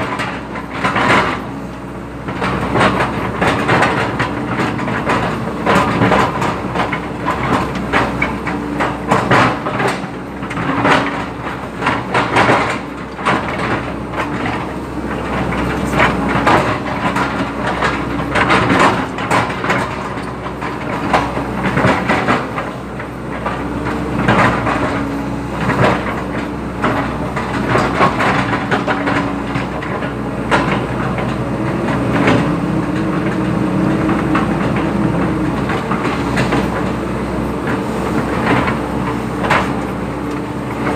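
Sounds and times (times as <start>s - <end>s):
excavator diesel engine working: 0.0s - 40.9s
machine knocks and rattling clanks: 0.0s - 40.9s.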